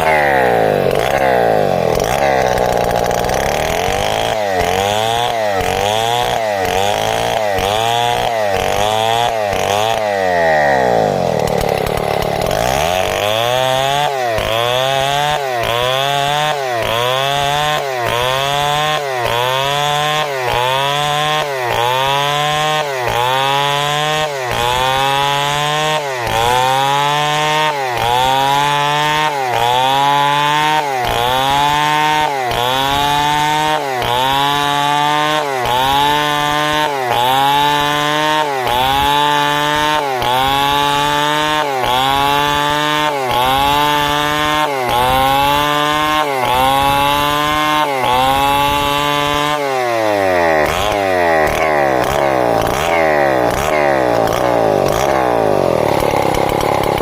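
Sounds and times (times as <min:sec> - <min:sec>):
chainsaw ripping timber: 0:00.0 - 0:57.0.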